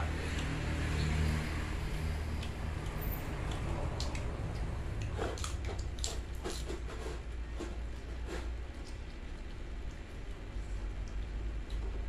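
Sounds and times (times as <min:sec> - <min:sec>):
person chewing crunchy food: 0:02.3 - 0:12.0.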